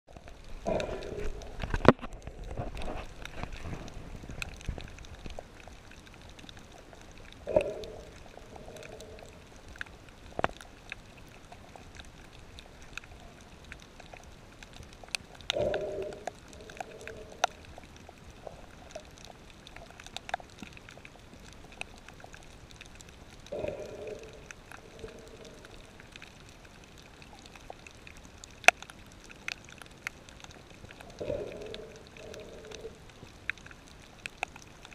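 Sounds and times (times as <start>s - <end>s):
bubbles and churning water: 0.1s - 34.9s
sharp underwater clicks: 0.1s - 34.9s.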